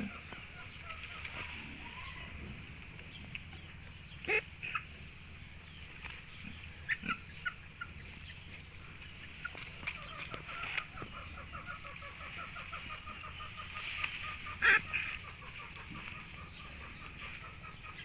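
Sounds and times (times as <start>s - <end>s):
farm animal calls: 0.0s - 18.0s
steady low background noise: 0.0s - 18.0s.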